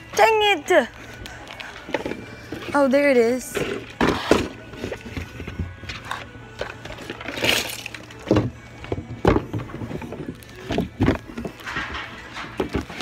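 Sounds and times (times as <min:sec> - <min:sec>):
store background hum: 0:00.0 - 0:13.0.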